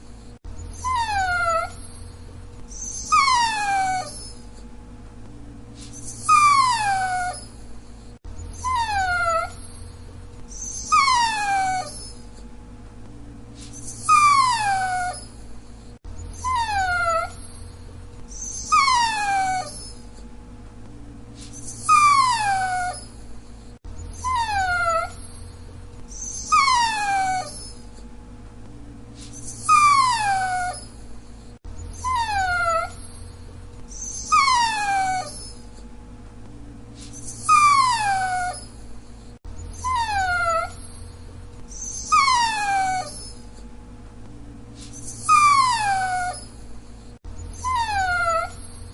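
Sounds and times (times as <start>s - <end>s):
dog whining: 0.0s - 4.7s, 5.8s - 12.5s, 13.6s - 20.3s, 21.4s - 28.1s, 29.2s - 35.9s, 37.0s - 43.7s, 44.8s - 48.9s.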